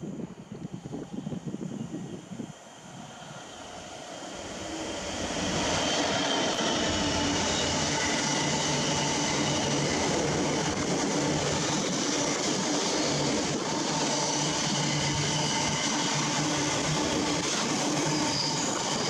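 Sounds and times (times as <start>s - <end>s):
diesel locomotive drone: 0.0s - 19.0s
train wheels rumbling on rails: 0.0s - 19.0s.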